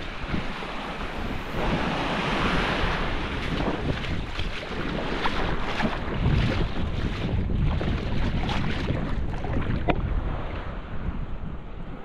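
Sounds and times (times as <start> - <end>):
sea water lapping and splashing: 0.0 - 11.2
wind buffeting microphone: 0.0 - 12.0.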